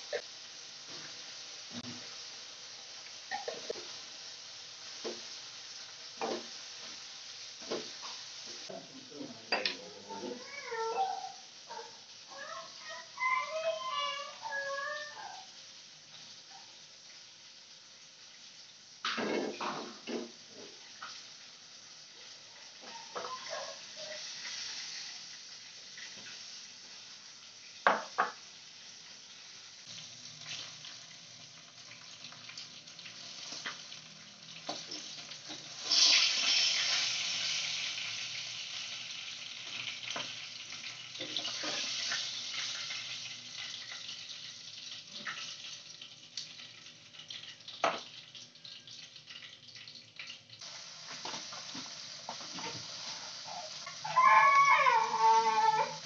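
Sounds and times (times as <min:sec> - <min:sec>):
food frying in wok: 0:00.0 - 0:56.0.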